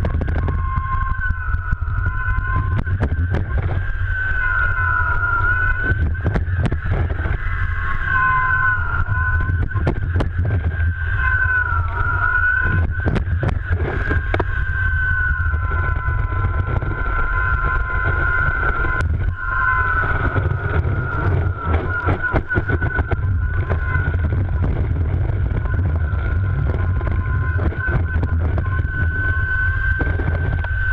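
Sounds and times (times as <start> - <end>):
high whine: 0.0 - 30.9.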